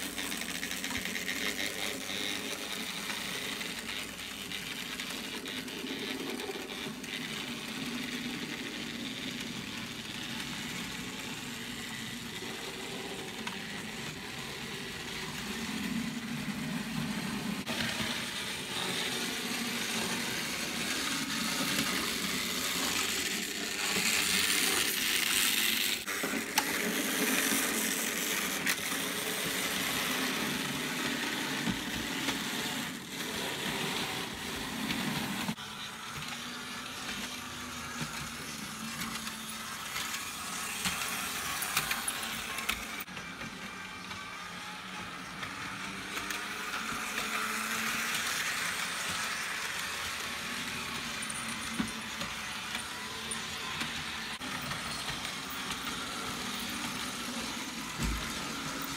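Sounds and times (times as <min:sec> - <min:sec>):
model train motors humming: 0:00.0 - 0:58.9.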